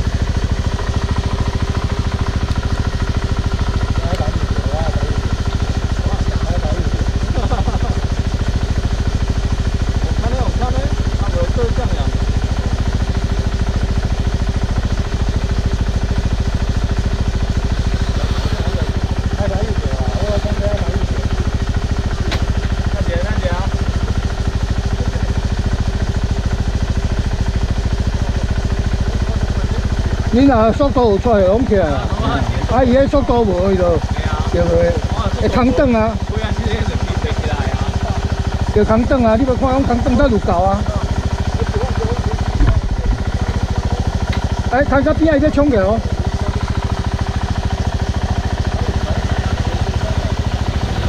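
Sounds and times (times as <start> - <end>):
motorcycle engine idling: 0.0 - 51.0.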